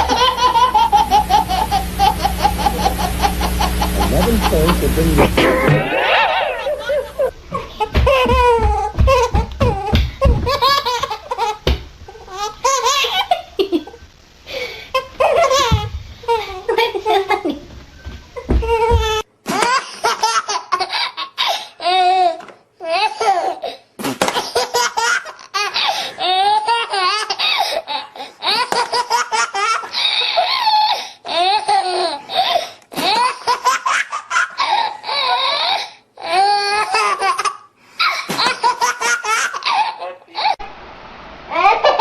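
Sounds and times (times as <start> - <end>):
small child laughing: 0.0 - 14.0, 14.9 - 17.6, 18.4 - 40.6, 41.5 - 42.0.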